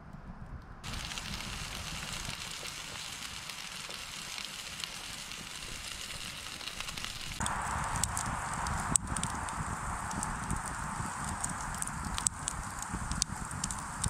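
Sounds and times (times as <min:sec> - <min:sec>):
campfire crackling and popping: 0:00.8 - 0:14.0.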